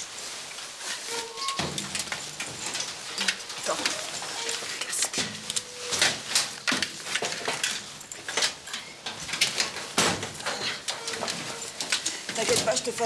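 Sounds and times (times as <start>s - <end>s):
bags and clothing rustling: 0.0s - 13.0s
metal locker doors clicking and knocking: 1.1s - 13.0s.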